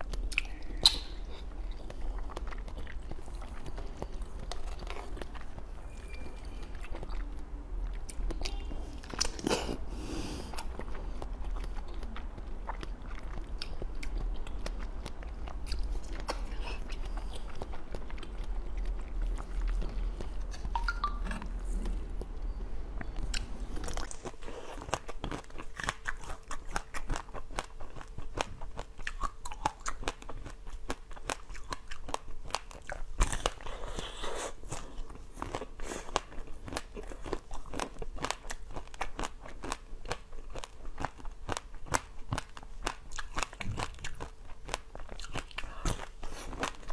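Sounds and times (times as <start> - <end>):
wet chewing: 0.0 - 46.9.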